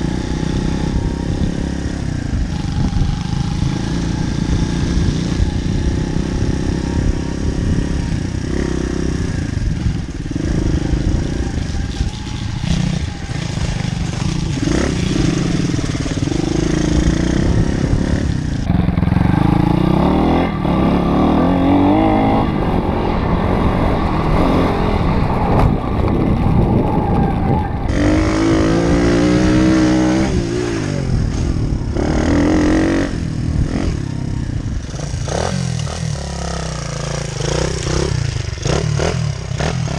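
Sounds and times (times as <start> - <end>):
motorbike engine revving: 0.0 - 39.9
wind rushing over microphone: 0.0 - 39.9.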